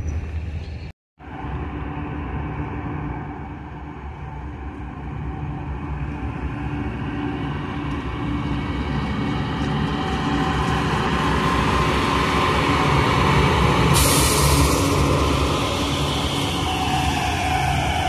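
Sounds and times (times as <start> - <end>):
diesel locomotives passing: 0.0 - 18.0.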